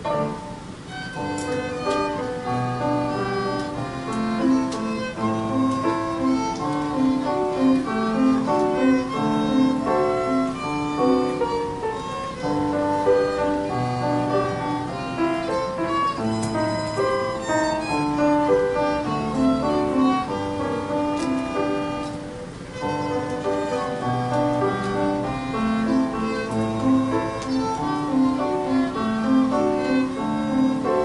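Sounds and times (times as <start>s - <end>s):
piano accompaniment: 0.0s - 31.0s
violin melody: 0.0s - 31.0s.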